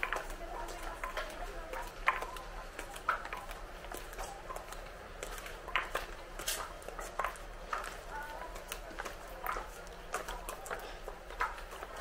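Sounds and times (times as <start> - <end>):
faint indistinct chatter: 0.0 - 12.0
footsteps on paving: 0.0 - 12.0.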